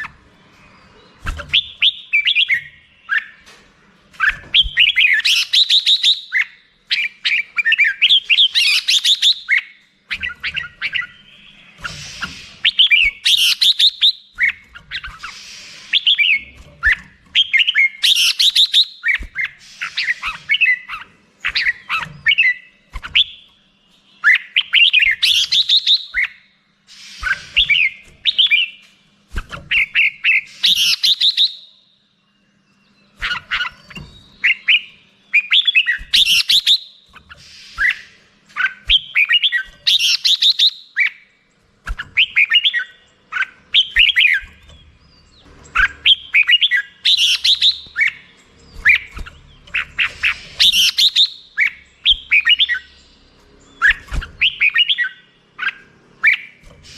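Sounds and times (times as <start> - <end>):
bird chirping song: 0.0 - 56.9.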